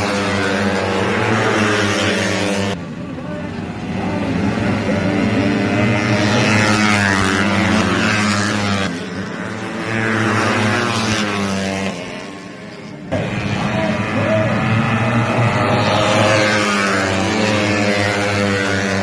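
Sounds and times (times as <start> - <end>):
race motorcycles passing: 0.0 - 19.0.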